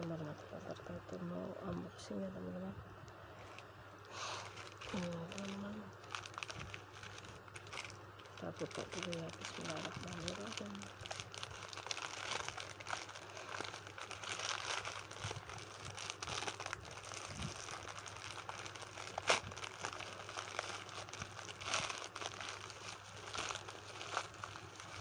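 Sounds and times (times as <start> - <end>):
plastic mailer crinkling: 3.4 - 25.0.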